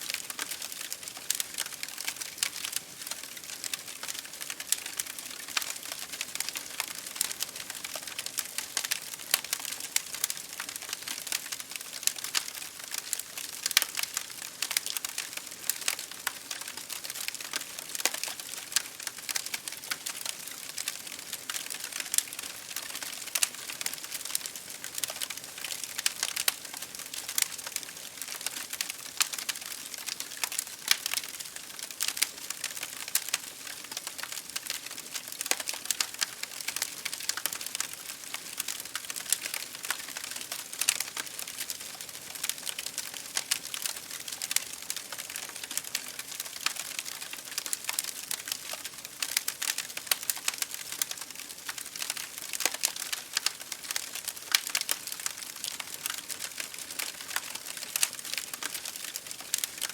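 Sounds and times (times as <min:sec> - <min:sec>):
rain against a window: 0:00.0 - 0:59.9
wood fire crackling and popping: 0:00.0 - 0:59.9.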